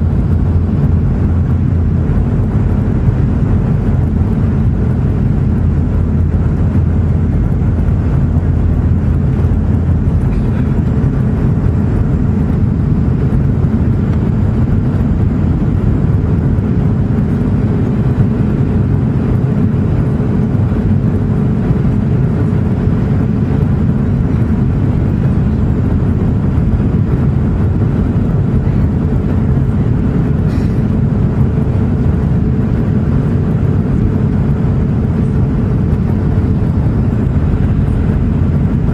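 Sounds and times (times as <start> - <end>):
aircraft cabin engine and airflow noise: 0.0 - 38.9.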